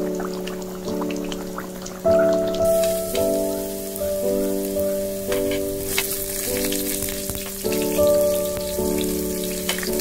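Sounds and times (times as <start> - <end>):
background music of held chords: 0.0 - 10.0
garlic sizzling in hot oil: 0.0 - 10.0.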